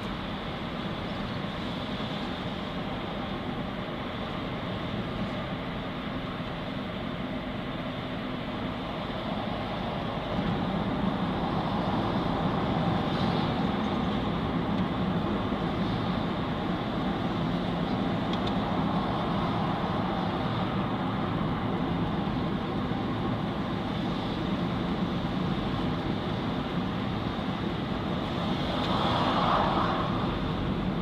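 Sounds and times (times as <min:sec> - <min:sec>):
car engine and tyre noise: 0:00.0 - 0:31.0.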